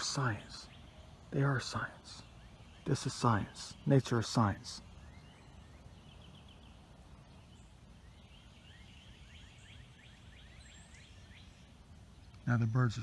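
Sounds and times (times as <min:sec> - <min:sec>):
songbird chirping: 0:00.0 - 0:13.0.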